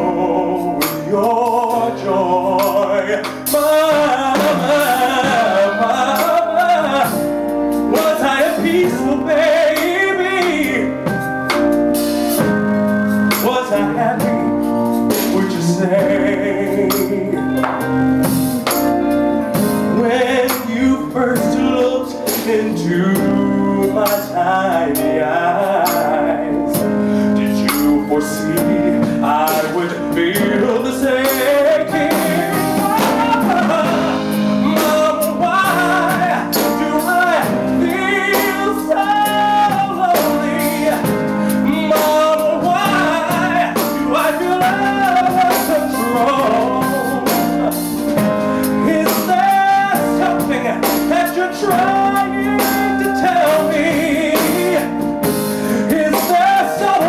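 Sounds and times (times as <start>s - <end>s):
live band chords: 0.0s - 57.0s
man singing: 0.0s - 57.0s.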